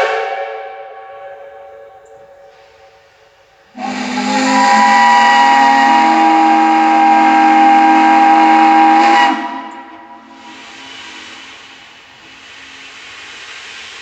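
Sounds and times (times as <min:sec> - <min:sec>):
hiss: 0:02.0 - 0:14.0.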